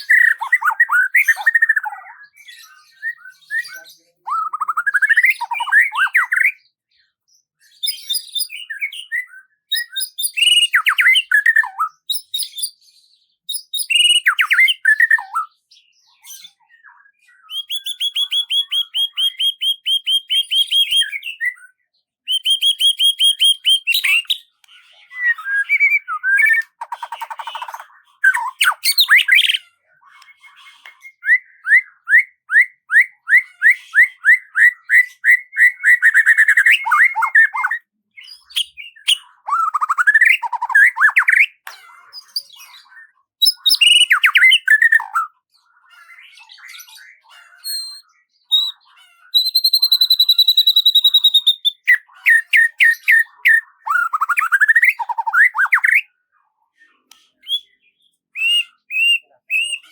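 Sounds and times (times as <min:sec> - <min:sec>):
songbird singing: 0:00.0 - 0:56.1, 0:56.9 - 0:59.9.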